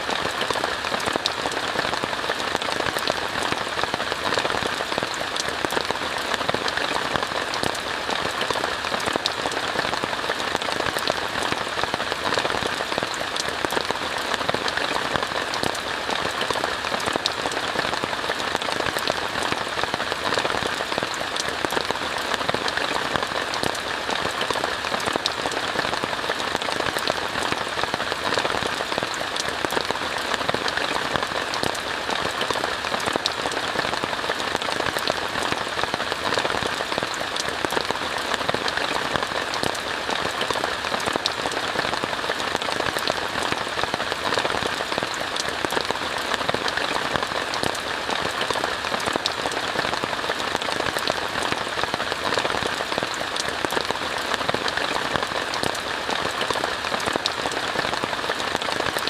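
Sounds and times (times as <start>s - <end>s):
rain falling on a tent: 0.0s - 59.0s.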